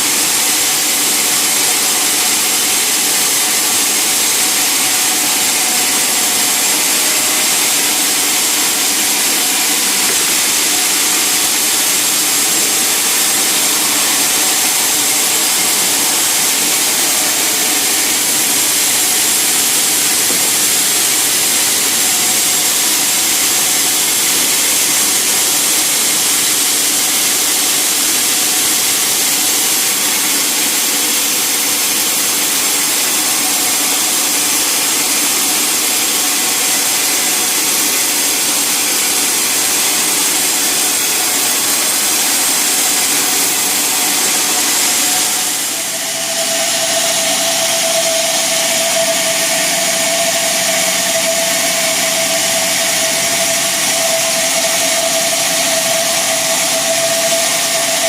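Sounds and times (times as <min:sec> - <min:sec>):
sawmill saw machinery running: 0:00.0 - 0:58.0.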